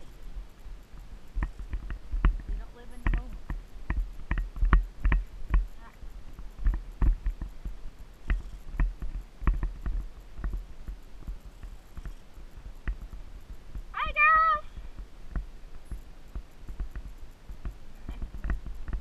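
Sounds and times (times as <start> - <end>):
horse hooves on dirt trail: 0.0 - 19.0.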